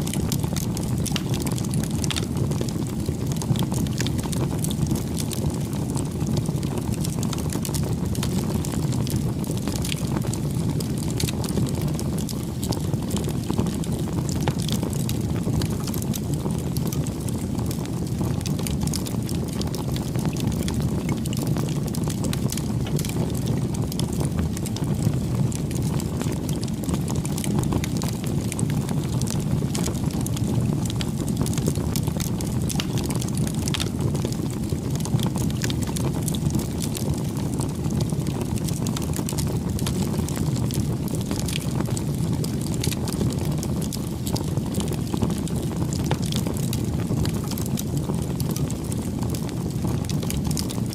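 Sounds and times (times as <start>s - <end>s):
burning wood crackling: 0.0s - 50.9s
rush of flames: 0.0s - 50.9s.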